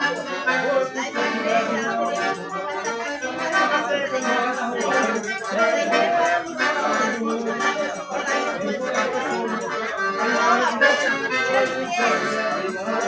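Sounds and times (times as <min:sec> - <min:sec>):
festive accordion music: 0:00.0 - 0:13.0.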